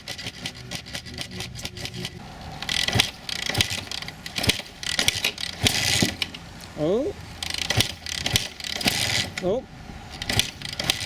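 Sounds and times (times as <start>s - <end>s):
dirt bike engine turning over: 0.0s - 11.0s.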